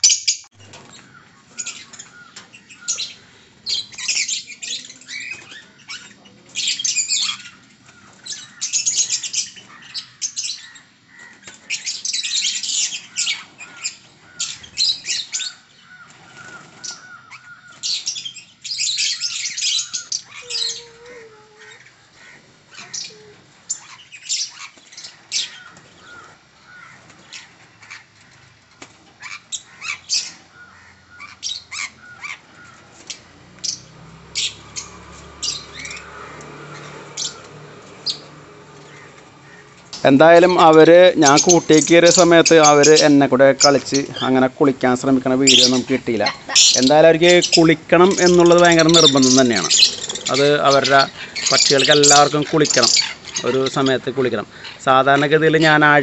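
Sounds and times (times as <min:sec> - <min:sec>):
parrots chirping and squawking: 0:00.0 - 0:56.0.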